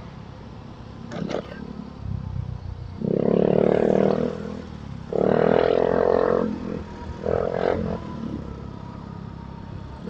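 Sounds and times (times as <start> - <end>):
motorcycle running hum: 0.0 - 10.0.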